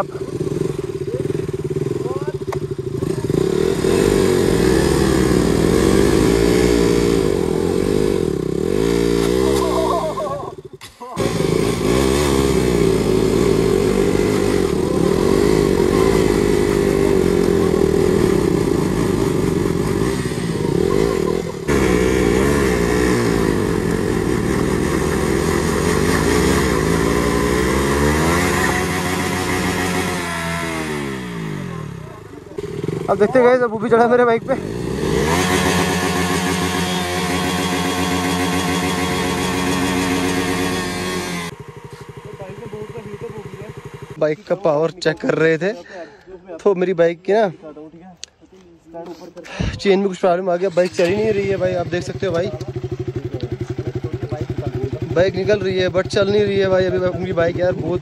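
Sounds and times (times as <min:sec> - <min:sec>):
motorcycle engines revving hard: 0:00.0 - 0:45.7, 0:50.5 - 0:58.0.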